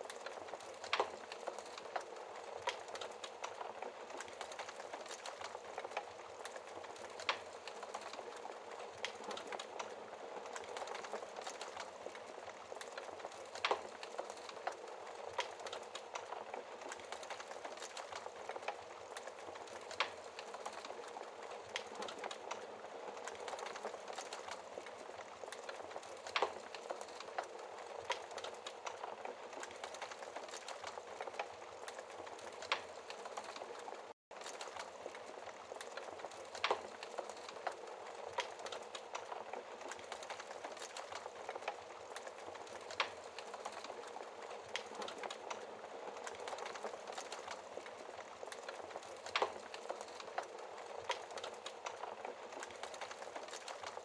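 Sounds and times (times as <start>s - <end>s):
wood fire crackling: 0.0s - 54.0s
fire pops: 0.1s - 54.0s.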